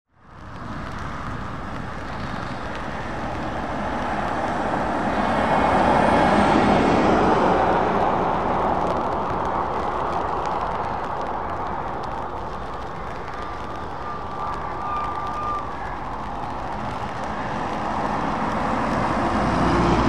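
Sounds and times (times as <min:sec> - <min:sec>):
cars passing: 0:00.2 - 0:20.0.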